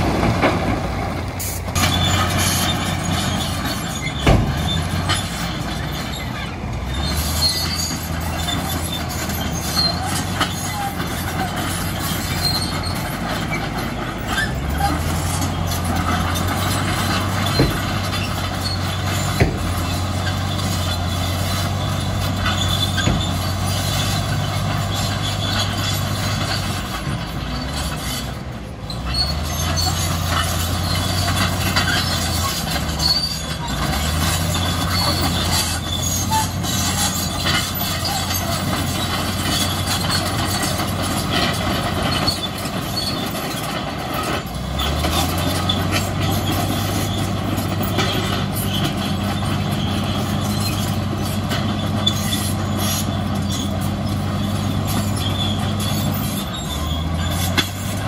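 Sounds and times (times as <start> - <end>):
bulldozer diesel engine running: 0.0 - 58.0
steel tracks squeaking and clanking: 0.0 - 58.0.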